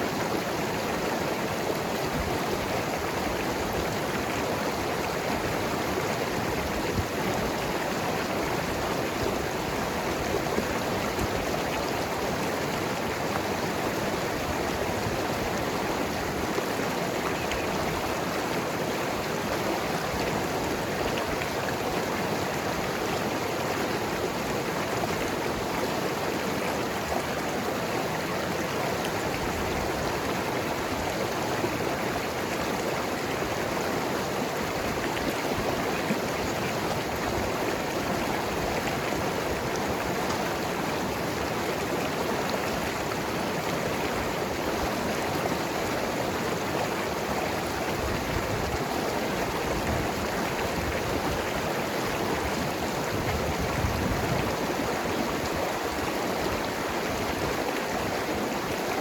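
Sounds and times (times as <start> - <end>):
river flowing over rocks: 0.0 - 59.0.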